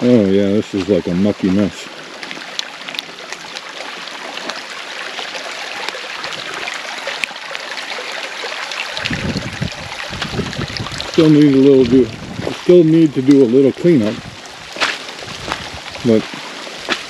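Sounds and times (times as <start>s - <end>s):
water rushing down ditch: 0.0s - 17.0s.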